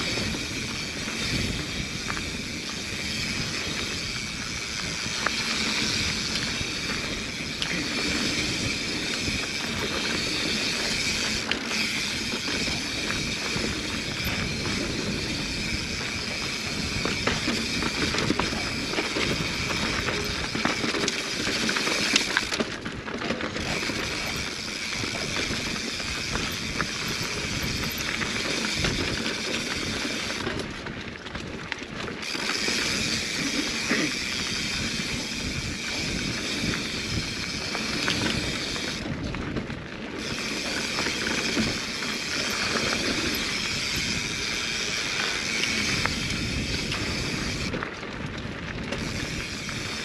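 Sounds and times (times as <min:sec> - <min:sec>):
hub ratchet clicking: 0:00.0 - 0:22.8, 0:23.5 - 0:30.7, 0:32.2 - 0:39.2, 0:40.2 - 0:47.8, 0:48.8 - 0:50.0
bike tyres on dirt: 0:00.0 - 0:50.0.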